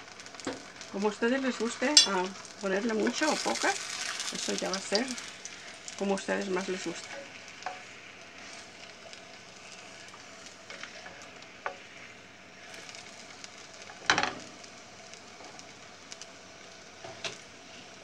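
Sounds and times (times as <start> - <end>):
tortilla sizzling in oil: 0.0 - 18.0.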